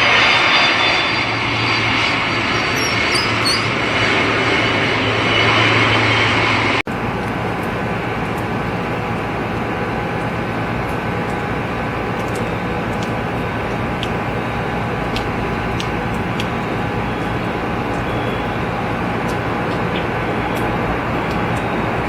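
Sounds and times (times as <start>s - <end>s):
jet airliner engines running: 0.0s - 22.0s.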